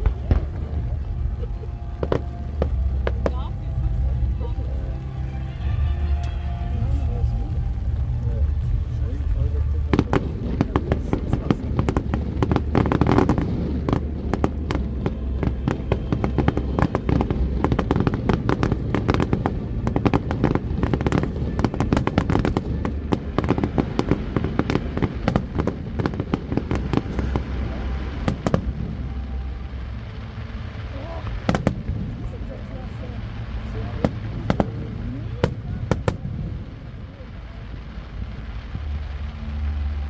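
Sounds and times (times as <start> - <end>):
fireworks bangs and crackling: 0.0 - 40.0
low rumble: 0.0 - 40.0.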